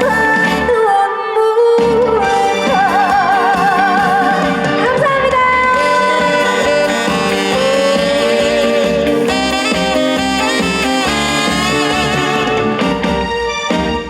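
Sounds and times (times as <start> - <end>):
band backing track: 0.0 - 14.0.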